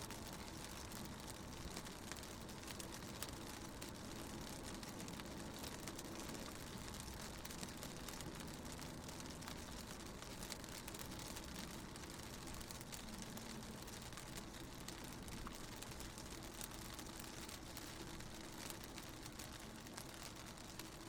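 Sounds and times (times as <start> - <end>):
raindrops pattering on car window: 0.0 - 21.0.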